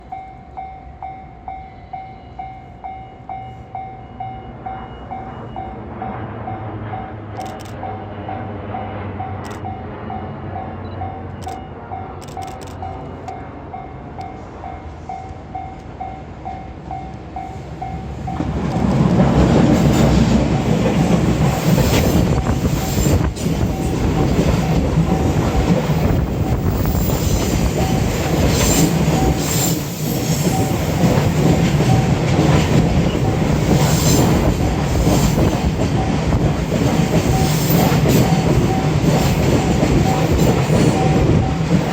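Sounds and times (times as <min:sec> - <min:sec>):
train wheels rumbling over rails: 0:04.0 - 0:41.9.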